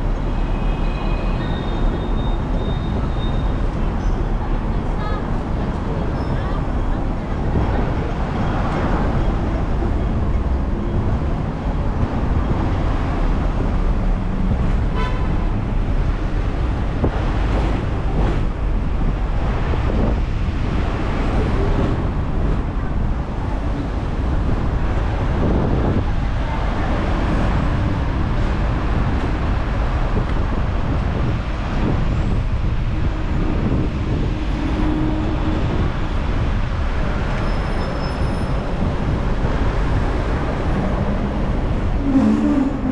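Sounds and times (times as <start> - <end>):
road traffic: 0.0 - 42.9
tram rumbling on rails: 0.0 - 42.9.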